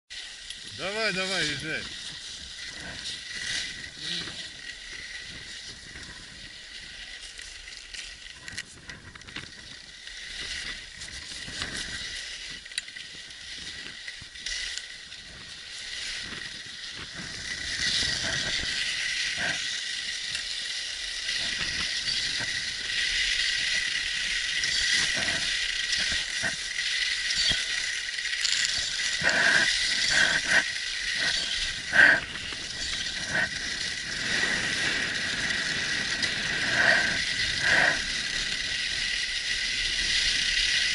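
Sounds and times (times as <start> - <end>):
ski clacks: 0.1 - 40.9
skis scraping over snow: 0.1 - 40.9.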